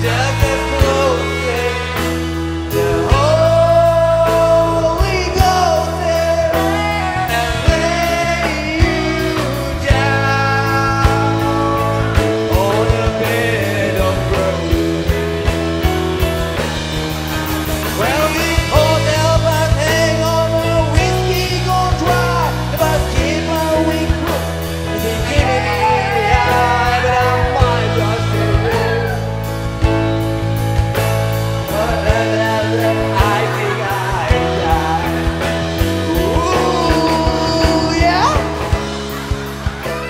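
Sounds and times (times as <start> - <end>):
song with singing voice: 0.0 - 40.0.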